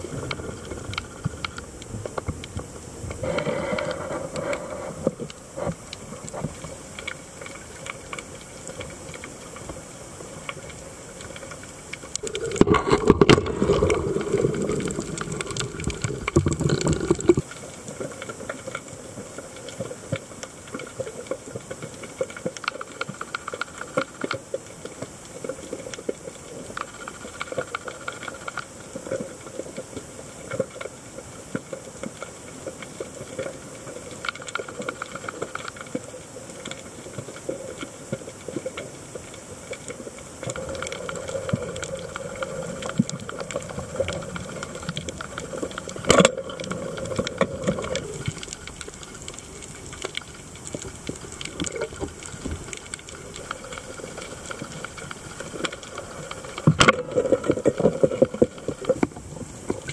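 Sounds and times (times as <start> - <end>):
underwater crackling and hiss: 0.0 - 59.9.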